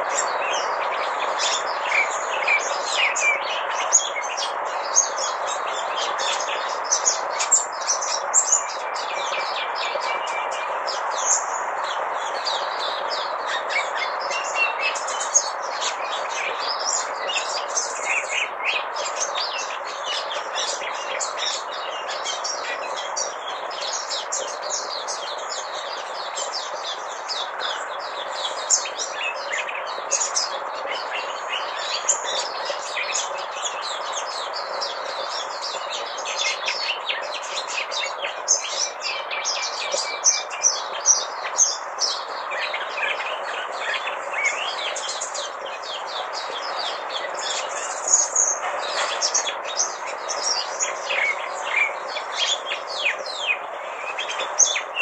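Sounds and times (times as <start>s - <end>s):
bird twittering song: 0.0s - 55.0s
steady background hiss: 0.0s - 55.0s.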